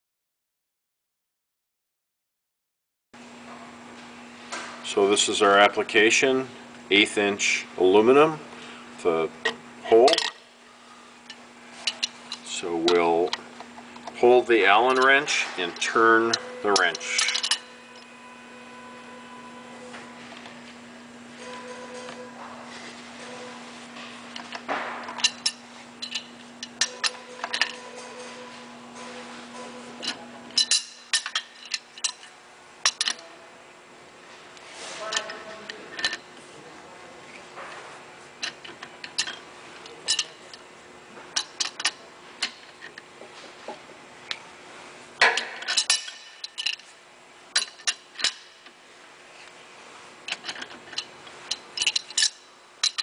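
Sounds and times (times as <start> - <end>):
low steady hum: 3.2 - 53.0.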